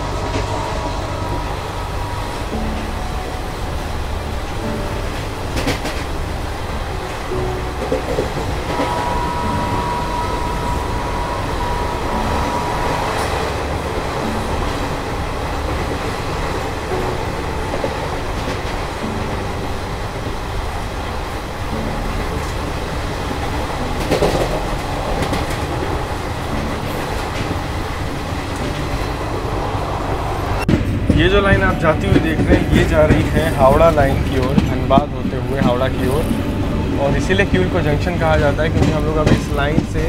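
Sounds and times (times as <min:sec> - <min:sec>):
high steady tone: 0:00.0 - 0:39.0
train wheels rumbling on rails: 0:00.0 - 0:40.0.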